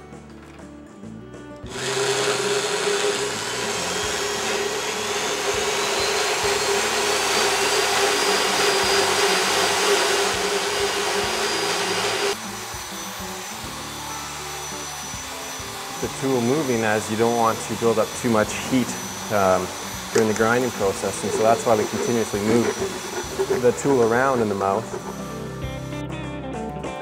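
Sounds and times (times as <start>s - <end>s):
electric dental float motor humming: 1.6s - 26.0s.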